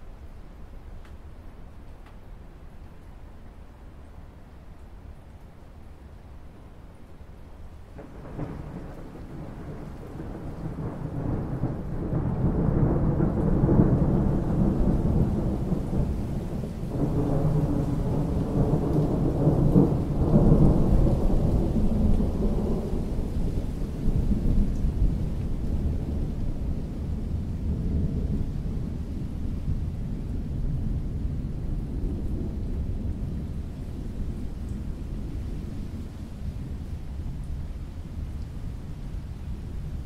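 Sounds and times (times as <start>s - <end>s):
steady rain: 0.0s - 40.0s
rolling thunder rumble: 7.9s - 40.0s.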